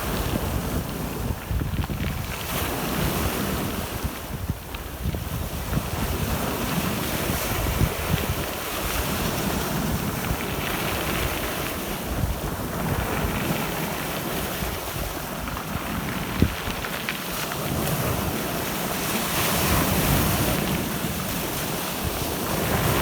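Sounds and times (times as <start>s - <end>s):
waves breaking on shore: 0.0s - 23.0s
wind buffeting microphone: 0.0s - 23.0s.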